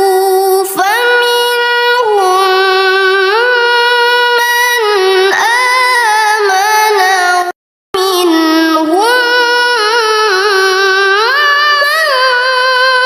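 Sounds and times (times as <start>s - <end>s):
person reciting melodically: 0.0s - 13.0s.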